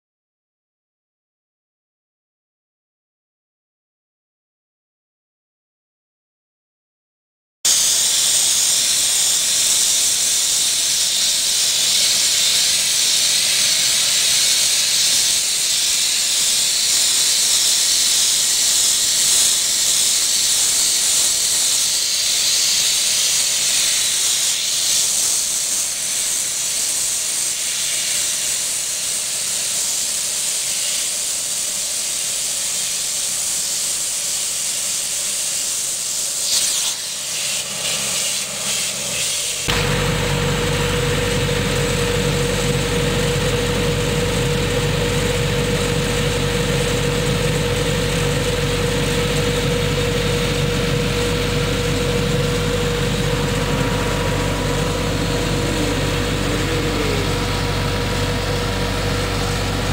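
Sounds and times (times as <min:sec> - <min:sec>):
sandblaster hissing: 0:07.7 - 0:59.9.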